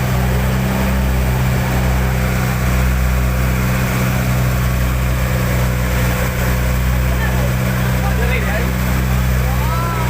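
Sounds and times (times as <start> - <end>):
motorboat engine drone: 0.0 - 10.0
wind and water hiss: 0.0 - 10.0.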